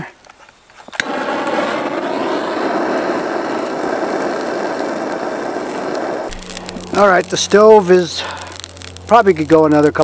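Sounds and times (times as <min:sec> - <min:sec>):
fire starter hissing: 0:00.7 - 0:10.0.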